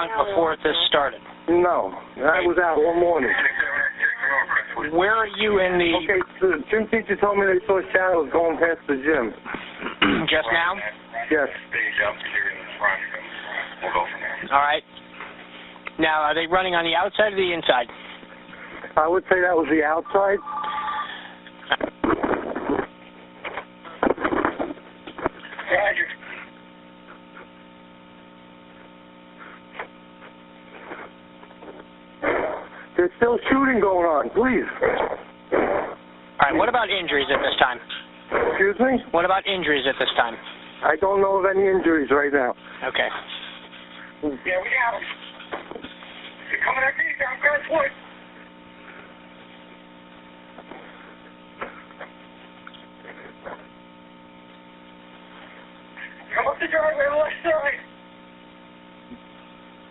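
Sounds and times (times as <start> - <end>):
electrical hum on phone line: 0.0 - 59.9.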